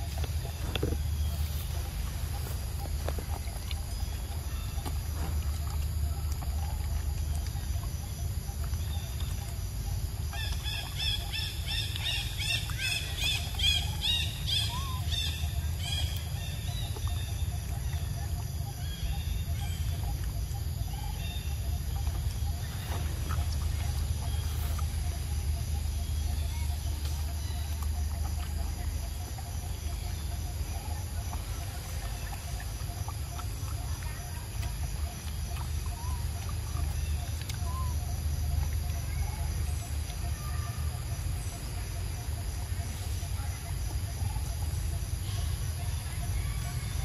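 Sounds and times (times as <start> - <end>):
bird chirping: 0.0 - 47.0
steady low rumble: 0.0 - 47.0.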